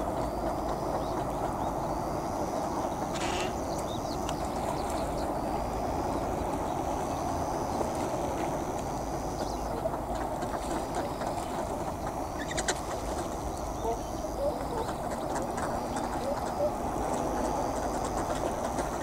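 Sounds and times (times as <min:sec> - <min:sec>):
ducks quacking: 0:00.0 - 0:19.0.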